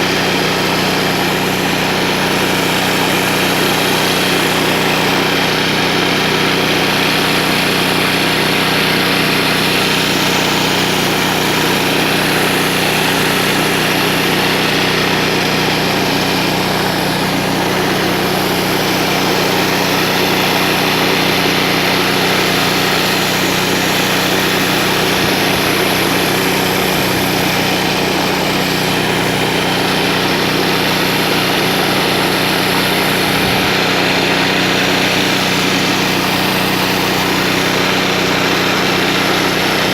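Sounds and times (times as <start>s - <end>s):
high-pressure water spraying concrete: 0.0s - 39.9s
pressure washer engine running: 0.0s - 39.9s.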